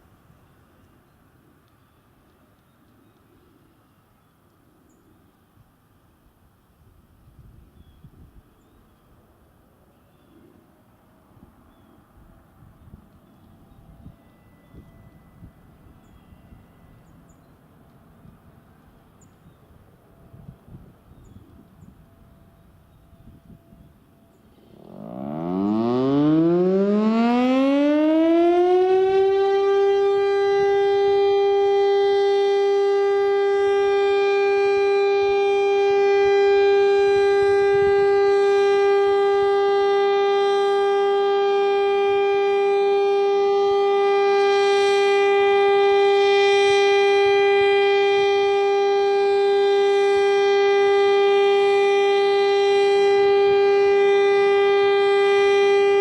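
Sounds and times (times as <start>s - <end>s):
warning siren: 10.8s - 56.0s.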